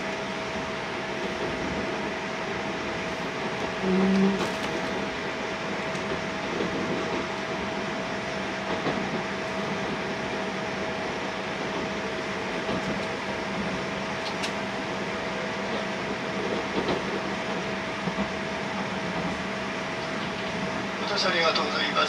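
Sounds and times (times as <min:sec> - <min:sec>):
train cabin rumble and hiss: 0:00.0 - 0:22.0.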